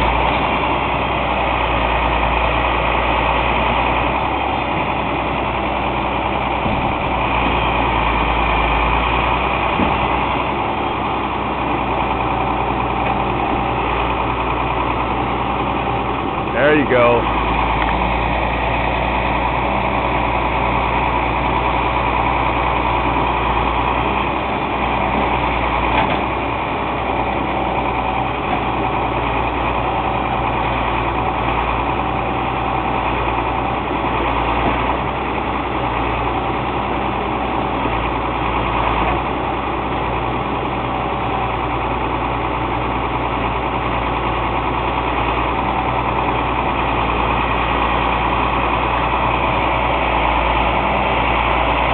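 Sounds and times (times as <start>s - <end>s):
truck engine running steadily: 0.0s - 51.9s.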